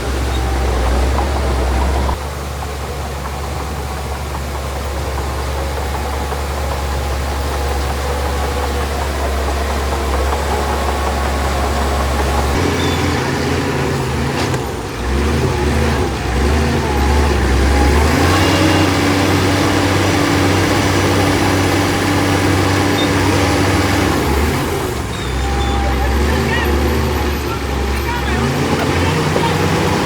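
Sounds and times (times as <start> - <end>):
heavy machinery diesel engine: 0.0 - 30.0.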